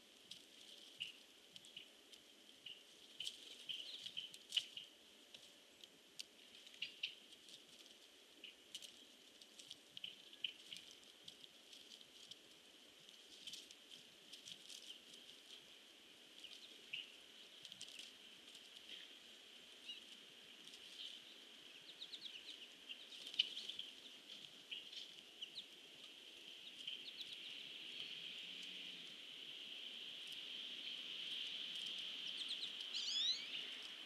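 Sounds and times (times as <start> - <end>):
faint high-pitched hum: 0.0 - 34.0.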